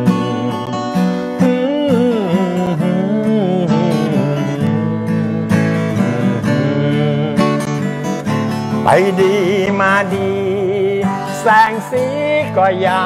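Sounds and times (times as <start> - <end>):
acoustic guitar strumming: 0.0 - 13.0
sliding lead melody: 0.0 - 13.0.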